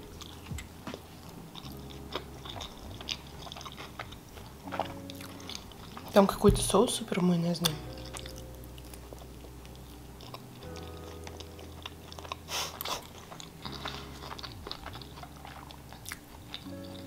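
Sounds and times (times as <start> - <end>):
person chewing: 0.0 - 6.2, 7.6 - 17.0
quiet music of held chords: 0.0 - 17.0.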